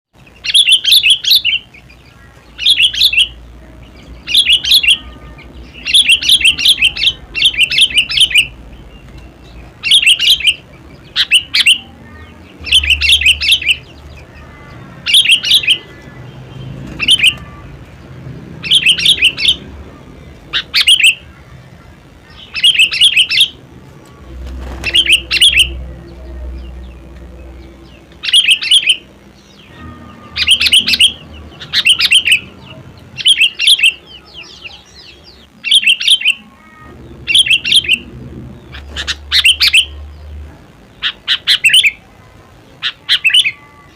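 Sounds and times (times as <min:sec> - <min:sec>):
bird singing clear notes: 0:00.2 - 0:43.9.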